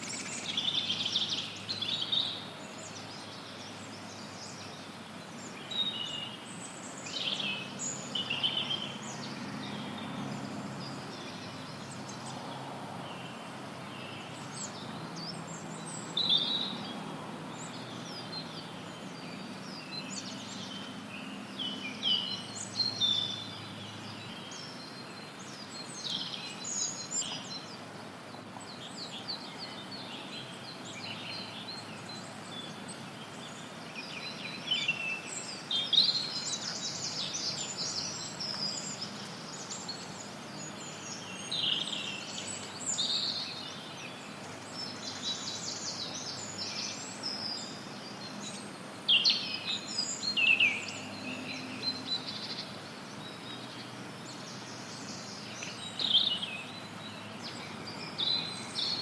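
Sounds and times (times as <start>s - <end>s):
songbirds chirping and trilling: 0.0s - 59.0s
steady background hiss: 0.0s - 59.0s.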